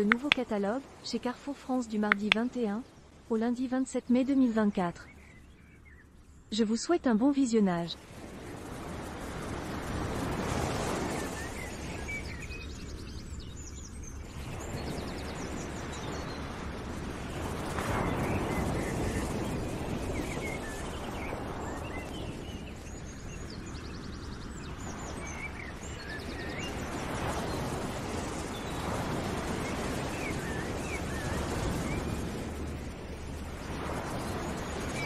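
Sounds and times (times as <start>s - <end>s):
birds chirping faintly: 0.0s - 8.6s, 10.5s - 35.0s
steady rushing ambience: 0.0s - 13.5s, 16.6s - 35.0s.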